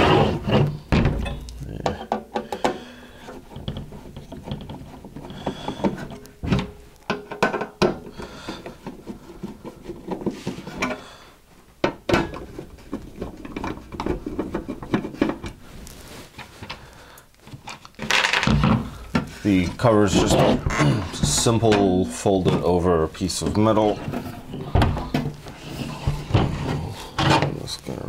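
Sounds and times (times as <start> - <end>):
clicks taps and scraping: 0.5 - 28.0.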